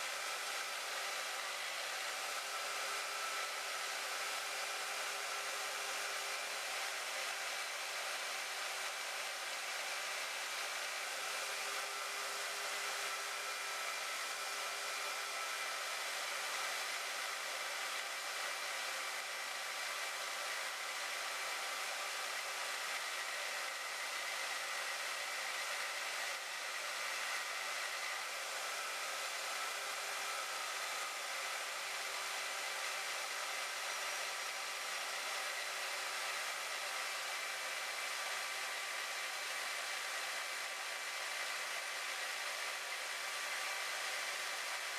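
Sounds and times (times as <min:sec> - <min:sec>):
band saw cutting: 0:00.0 - 0:44.9
faint steady whine: 0:00.0 - 0:44.9.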